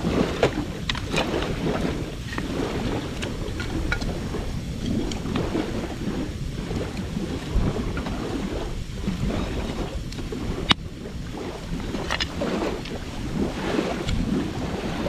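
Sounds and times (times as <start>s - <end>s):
campfire crackling and popping: 0.0s - 14.4s
wind rumble on microphone: 0.0s - 15.0s.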